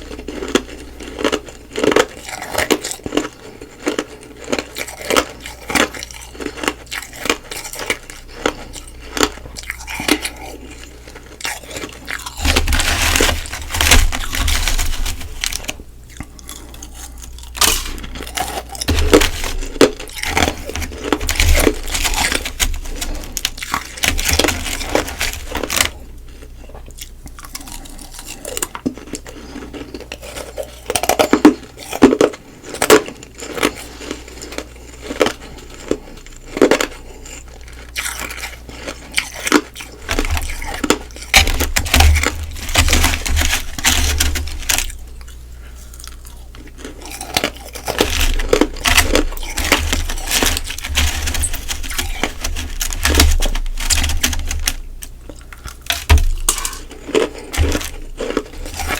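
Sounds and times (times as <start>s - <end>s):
crunching and chewing ice: 0.0s - 58.9s.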